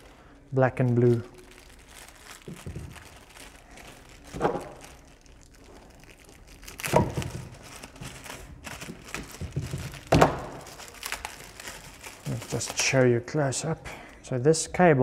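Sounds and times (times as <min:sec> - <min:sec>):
plastic wrapping crinkling: 0:00.0 - 0:13.7.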